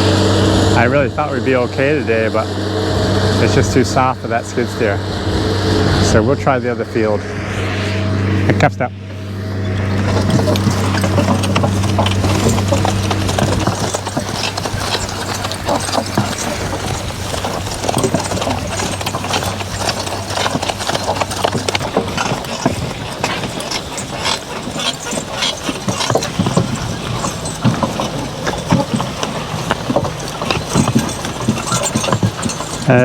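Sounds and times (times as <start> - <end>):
horse hooves clopping: 0.0 - 33.0
skid steer engine humming: 0.0 - 33.0.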